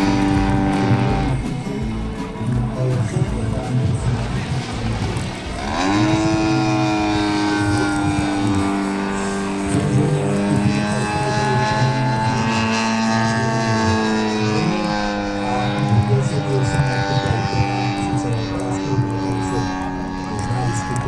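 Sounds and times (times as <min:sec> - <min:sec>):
model plane petrol engine: 0:00.0 - 0:21.0.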